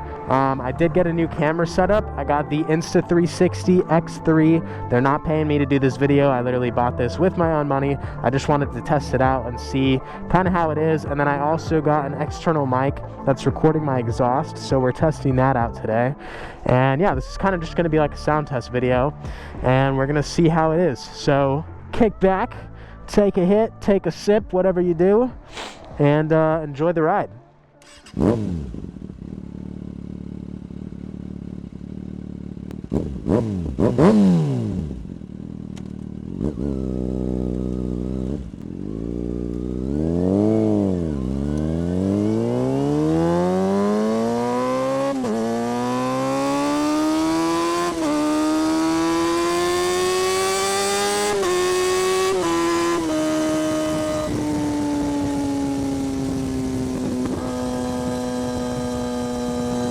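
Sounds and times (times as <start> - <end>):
motorcycle engine revving: 0.0 - 20.2, 27.8 - 59.9.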